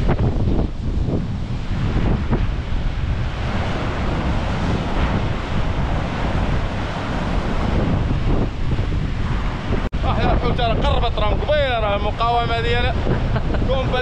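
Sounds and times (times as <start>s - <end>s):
heavy surf breaking: 0.0s - 14.0s
wind buffeting microphone: 0.0s - 14.0s.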